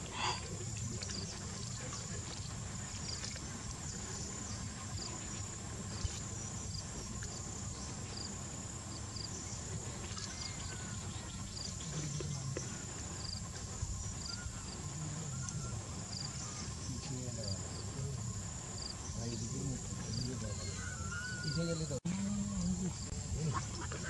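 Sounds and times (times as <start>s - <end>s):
insect buzz: 0.0s - 24.0s
insect chirps: 0.0s - 24.0s.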